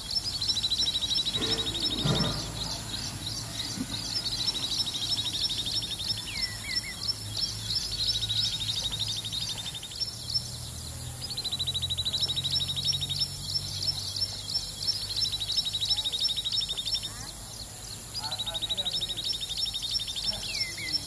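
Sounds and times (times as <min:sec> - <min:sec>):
high bird chirps: 0:00.0 - 0:21.0.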